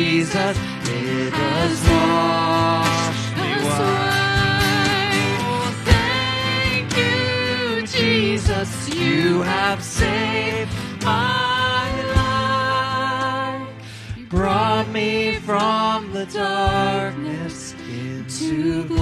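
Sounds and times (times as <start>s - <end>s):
man singing lead: 0.0s - 7.0s, 7.8s - 13.3s, 14.2s - 19.0s
cajon beat: 0.0s - 13.6s, 14.2s - 16.0s
acoustic guitar: 0.0s - 19.0s
keyboard: 0.0s - 19.0s.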